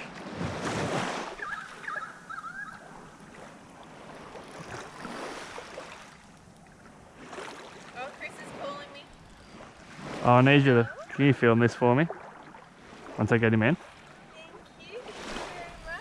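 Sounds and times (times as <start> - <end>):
water sloshing around legs: 0.0 - 16.0.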